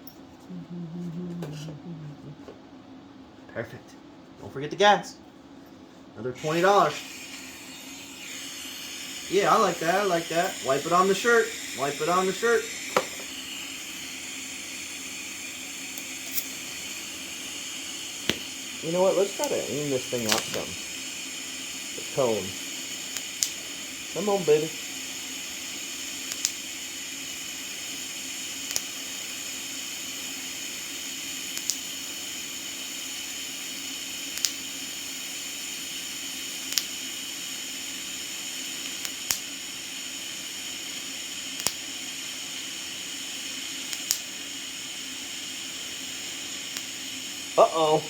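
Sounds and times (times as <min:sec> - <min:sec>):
welder hiss and hum: 0:06.3 - 0:48.0.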